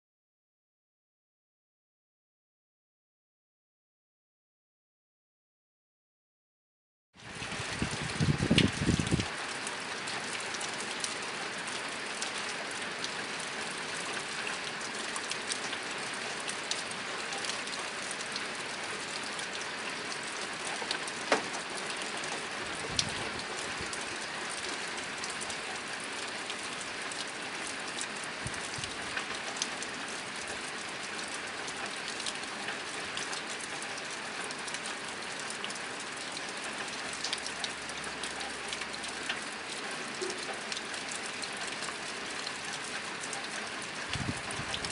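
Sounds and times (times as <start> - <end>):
rain on a tin roof: 7.2 - 44.9.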